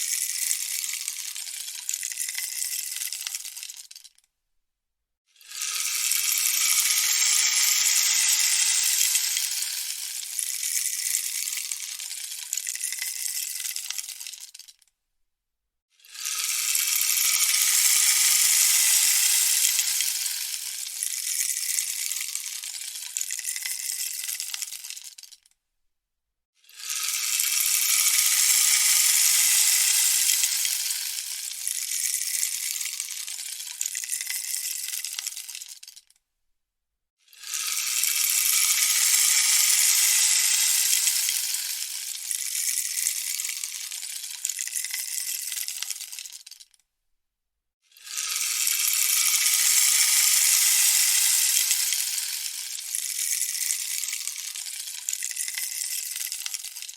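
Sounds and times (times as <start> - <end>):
rainstick trickling rattle: 0.0 - 4.2, 5.4 - 14.8, 16.1 - 25.5, 26.8 - 36.1, 37.4 - 46.8, 48.0 - 56.9.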